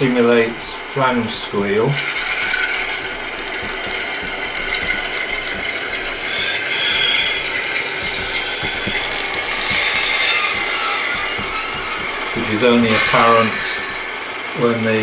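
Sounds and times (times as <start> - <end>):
mechanical running noise: 0.0 - 15.0.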